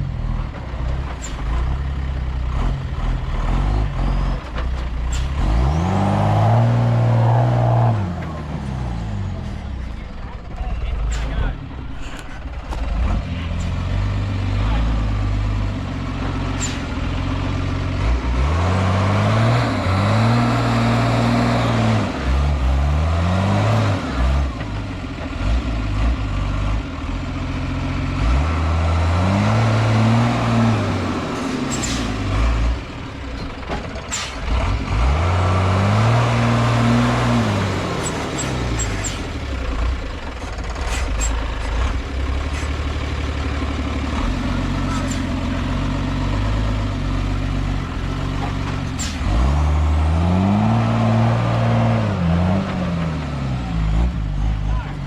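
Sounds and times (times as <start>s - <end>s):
truck diesel engine revving: 0.0s - 55.0s.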